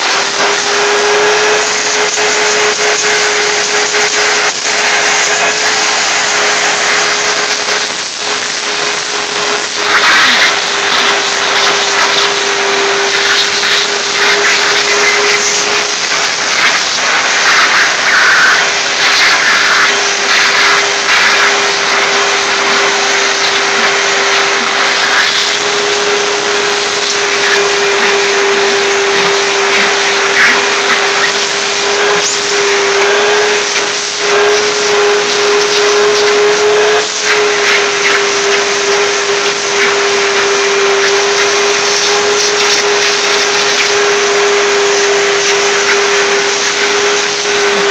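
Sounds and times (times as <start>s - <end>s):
shop vacuum suction: 0.0s - 47.9s.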